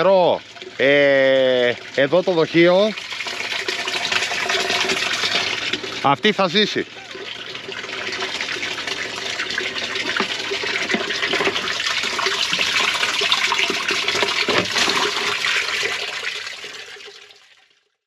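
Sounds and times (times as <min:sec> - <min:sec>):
water gushing into container: 0:00.0 - 0:17.8.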